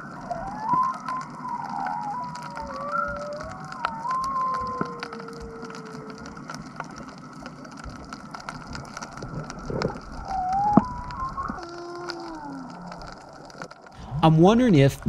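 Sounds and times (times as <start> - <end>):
whale song underwater: 0.0 - 14.1
dense underwater crackling: 0.0 - 15.0.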